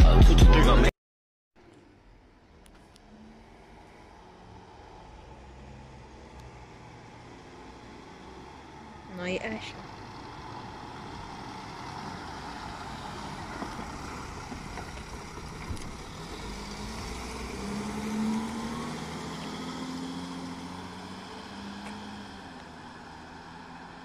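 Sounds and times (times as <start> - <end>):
tyre noise on road: 1.6 - 24.0
van engine driving past: 2.0 - 24.0.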